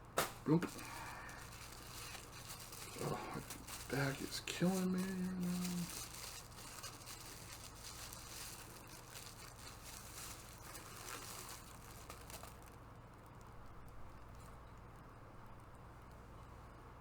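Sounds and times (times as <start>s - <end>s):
packaging crinkling and rustling: 0.0s - 14.7s
low steady hum: 0.0s - 17.0s.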